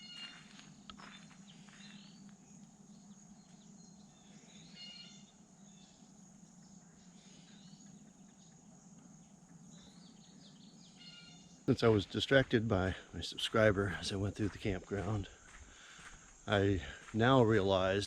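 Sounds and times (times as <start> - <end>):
bird chirps: 0.0 - 16.0
high insect drone: 0.0 - 18.0.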